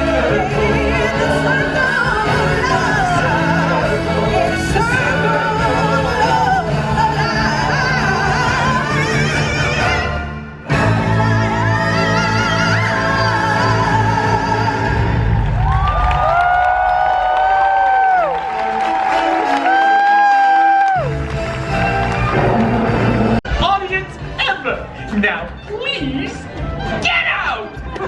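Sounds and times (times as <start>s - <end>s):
sustained musical accompaniment: 0.0s - 15.4s, 18.5s - 28.0s.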